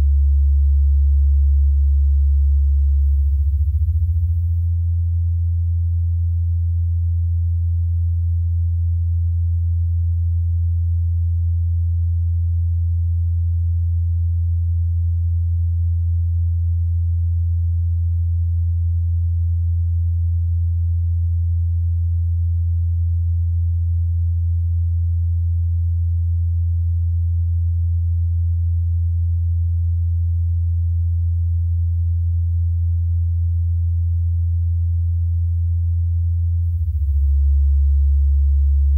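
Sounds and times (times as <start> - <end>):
deep electrical hum: 0.0 - 38.9.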